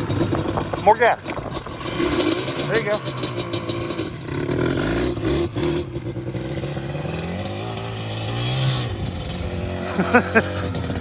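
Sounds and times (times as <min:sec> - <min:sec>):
small engine revving: 0:00.0 - 0:11.0.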